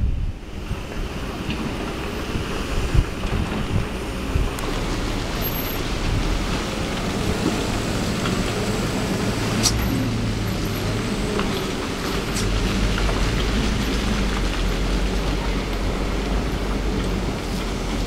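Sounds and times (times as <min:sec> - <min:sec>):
excavator diesel engine drone: 0:00.0 - 0:18.0
rough rushing rumbling noise: 0:00.0 - 0:18.0.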